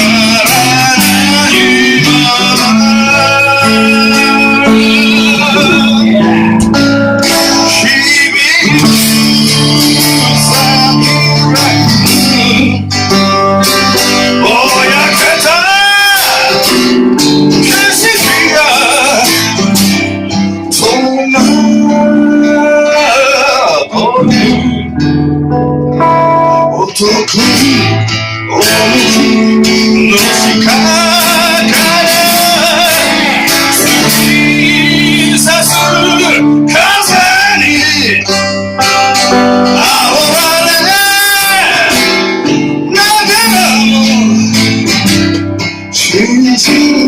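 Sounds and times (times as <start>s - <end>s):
acoustic guitar: 0.0s - 47.0s
person singing: 0.0s - 47.0s.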